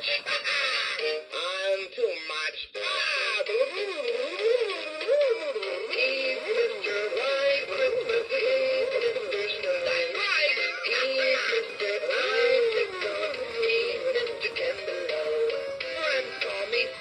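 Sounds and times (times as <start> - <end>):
toy sound chip playing sung song: 0.0 - 17.0.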